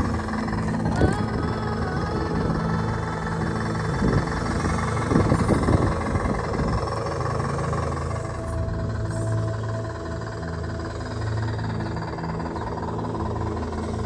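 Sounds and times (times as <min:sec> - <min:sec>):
rc crawler drive drone: 0:00.0 - 0:14.0.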